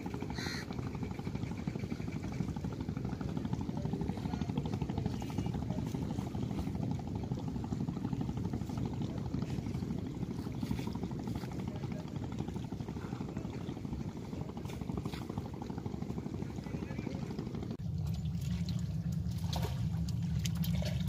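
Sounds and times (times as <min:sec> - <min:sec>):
river water lapping: 0:00.0 - 0:21.0.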